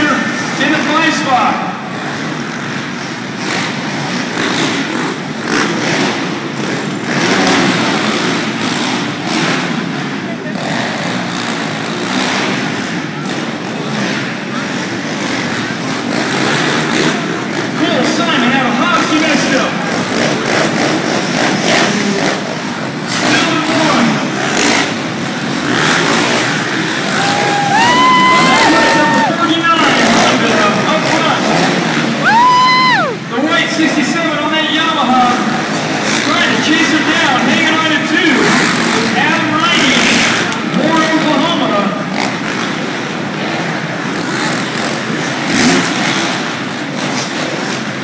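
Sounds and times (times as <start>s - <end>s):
motocross engines revving: 0.0s - 48.0s
noisy background: 0.0s - 48.0s.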